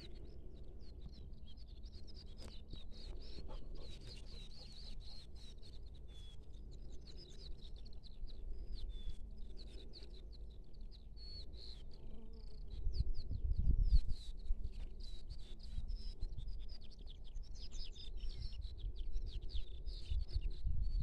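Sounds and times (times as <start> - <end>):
songbirds chirping and twittering: 0.0 - 21.0.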